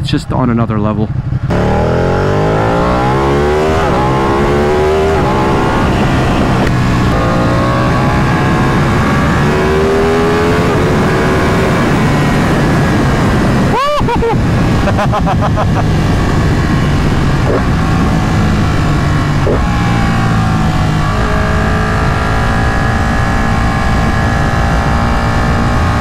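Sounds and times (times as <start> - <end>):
motorcycle engine accelerating: 0.4 - 26.0
wind rushing: 1.1 - 26.0.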